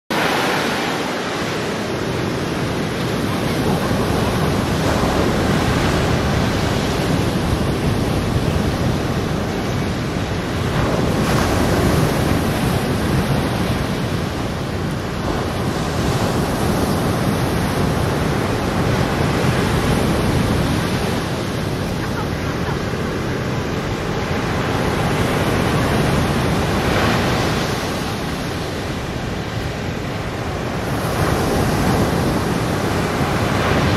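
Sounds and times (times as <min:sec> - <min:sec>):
surf breaking on beach: 0:00.1 - 0:33.9.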